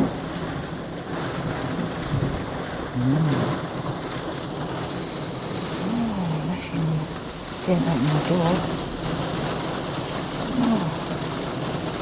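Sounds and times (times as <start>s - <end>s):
hail and rain on roof: 0.0s - 12.0s.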